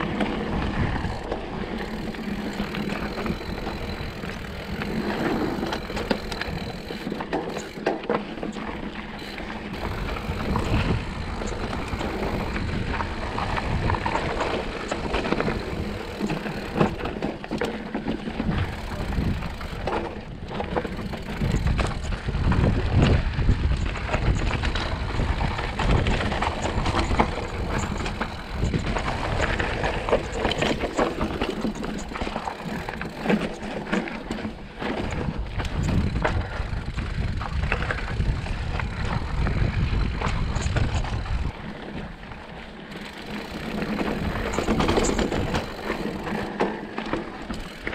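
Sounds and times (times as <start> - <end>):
bike tyre noise and rattle: 0.0 - 47.9
wheels knocking on rocks: 0.0 - 47.9.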